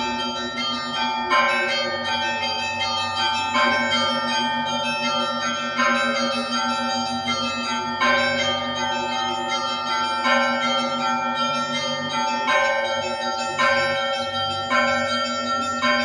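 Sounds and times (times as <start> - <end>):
heavy church bell strikes: 0.0 - 16.0
small bells ringing: 0.0 - 16.0.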